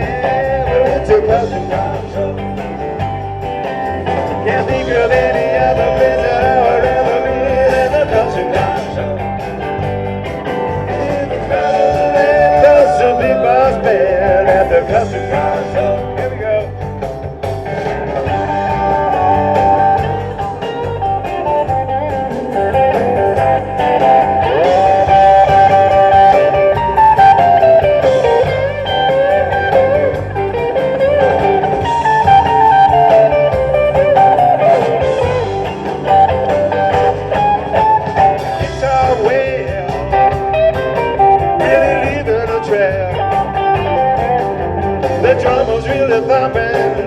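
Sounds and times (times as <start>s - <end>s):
bass: 0.0s - 47.0s
drums: 0.0s - 47.0s
lead guitar melodic lines: 0.0s - 47.0s.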